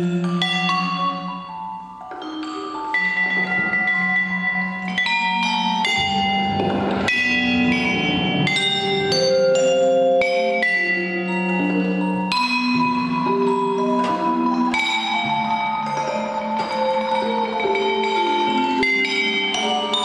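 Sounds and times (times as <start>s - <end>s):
vibraphone notes: 0.0s - 20.0s.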